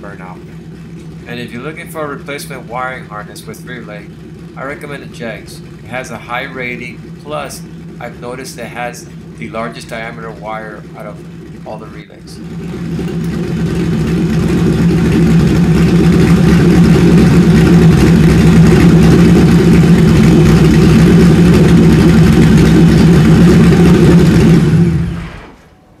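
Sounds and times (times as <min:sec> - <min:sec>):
car engine running: 0:00.0 - 0:25.7.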